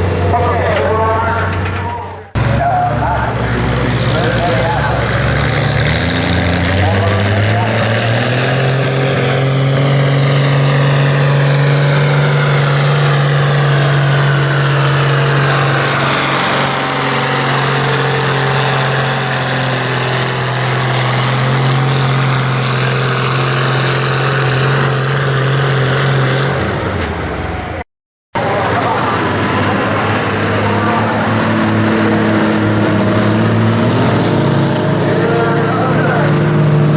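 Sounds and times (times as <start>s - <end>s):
tractor engine at full throttle: 0.0s - 36.9s.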